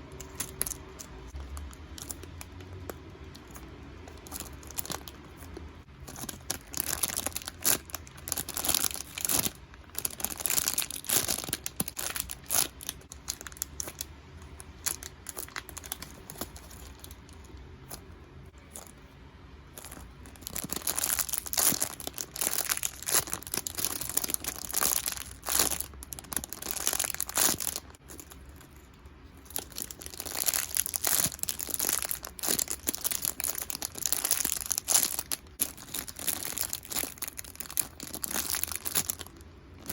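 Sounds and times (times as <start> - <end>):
plastic packaging crinkling: 0.0 - 18.0, 19.8 - 39.9.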